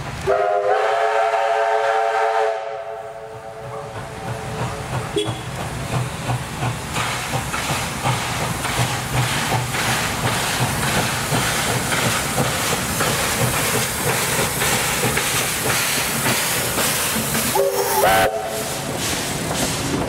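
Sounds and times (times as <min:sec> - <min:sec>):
steam locomotive exhaust beating: 0:00.0 - 0:20.0
steam hissing: 0:00.3 - 0:20.0.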